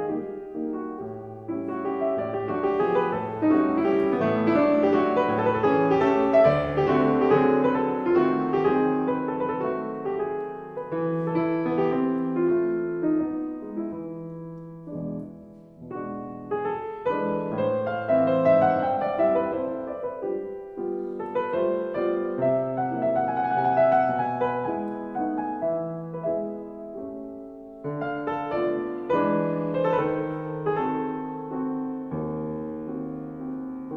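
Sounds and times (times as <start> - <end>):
soft piano music: 0.0 - 33.9.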